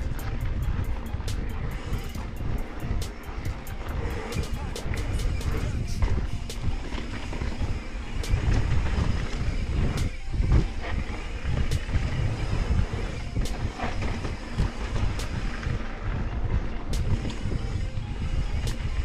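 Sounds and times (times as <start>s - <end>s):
bike clicks and rattles: 0.0s - 19.0s
wind on microphone: 0.0s - 19.0s.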